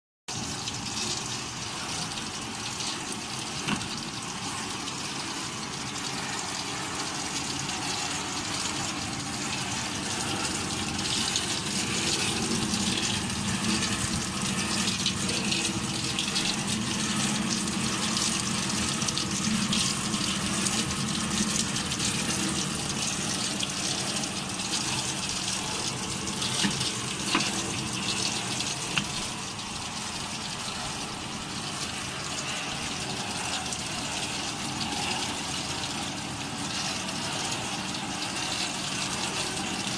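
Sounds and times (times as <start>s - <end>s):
low machine hum: 0.3s - 39.9s.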